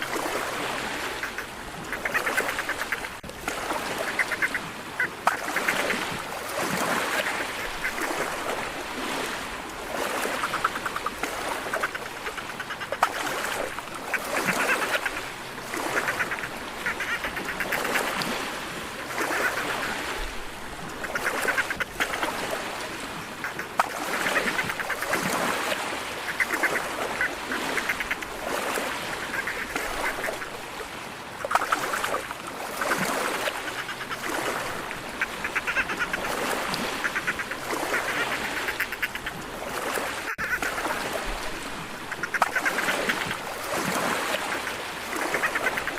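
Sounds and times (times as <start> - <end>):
dolphins squawking and chattering: 1.0 - 6.1, 6.7 - 8.4, 10.0 - 20.1, 21.0 - 30.6, 31.4 - 41.2, 42.0 - 45.9.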